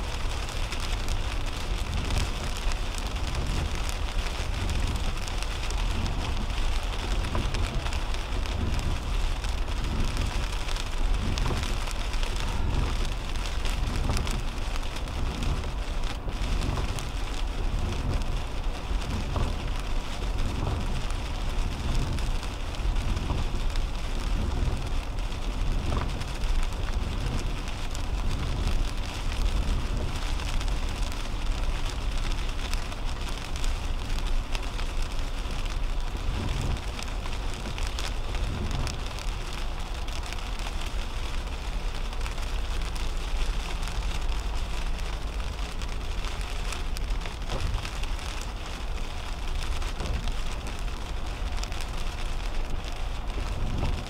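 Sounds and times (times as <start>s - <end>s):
rain on car windshield and roof: 0.0s - 54.0s
tyres rumbling on wet road: 0.0s - 54.0s.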